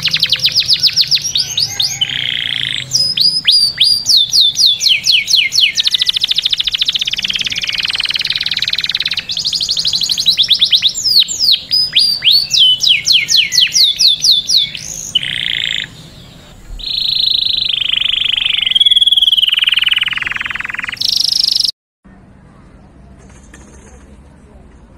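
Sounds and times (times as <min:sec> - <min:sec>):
canary singing trills: 0:00.0 - 0:21.7.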